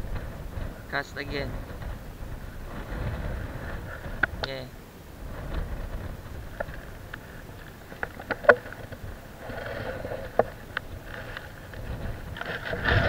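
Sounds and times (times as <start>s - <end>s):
wind and sea wash: 0.0s - 13.0s.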